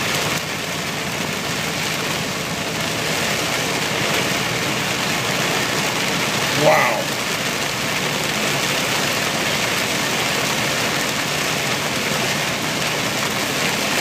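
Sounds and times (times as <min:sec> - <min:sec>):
heavy rain pelting a car: 0:00.0 - 0:14.0
tyre noise on wet road: 0:00.0 - 0:14.0.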